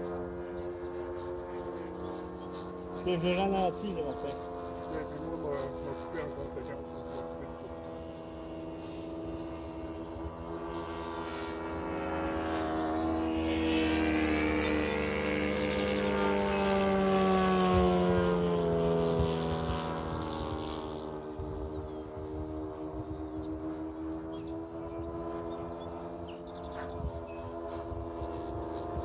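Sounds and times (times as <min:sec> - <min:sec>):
model plane engine and propeller flyby: 0:00.0 - 0:29.0.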